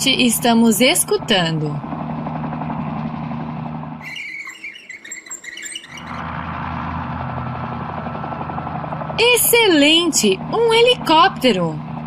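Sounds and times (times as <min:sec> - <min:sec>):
helicopter drone: 0:00.0 - 0:12.0.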